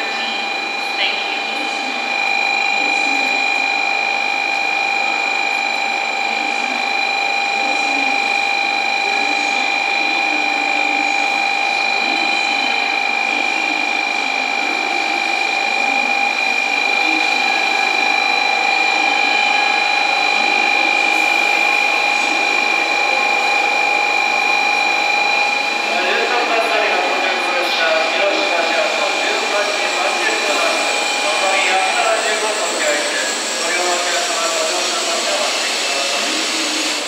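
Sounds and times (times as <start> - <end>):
high electrical whine: 0.0 - 37.0
train running noise: 0.0 - 37.0.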